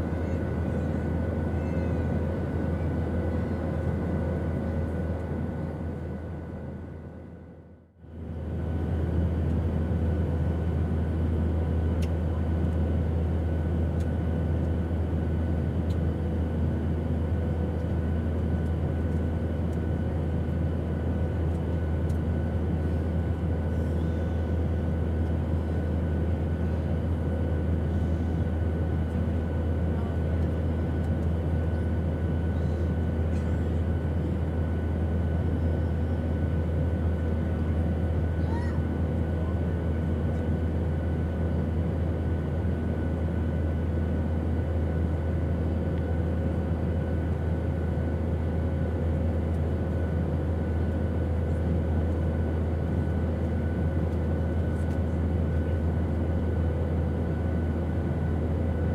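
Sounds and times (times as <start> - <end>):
airplane engine drone: 0.0 - 58.9.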